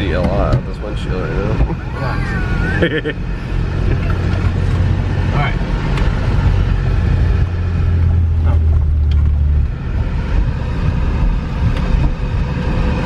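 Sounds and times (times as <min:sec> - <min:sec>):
car engine drone from cabin: 0:00.0 - 0:13.0.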